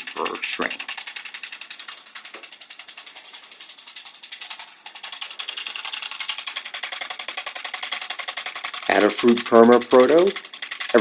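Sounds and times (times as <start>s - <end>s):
motor clicking rapidly: 0.0s - 11.0s.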